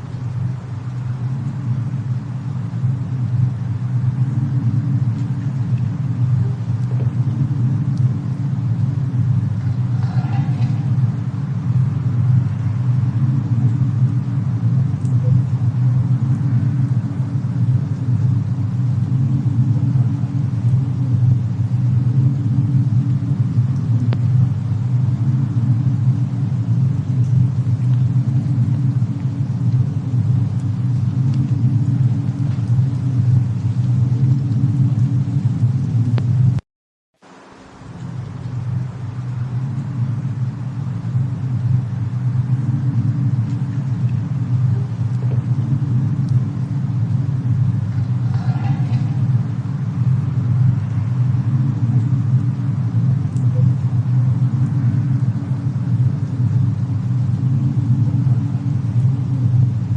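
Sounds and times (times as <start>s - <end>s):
deep rumble: 0.0s - 36.6s, 37.2s - 59.9s
faint crackle: 0.0s - 36.6s, 37.2s - 59.9s.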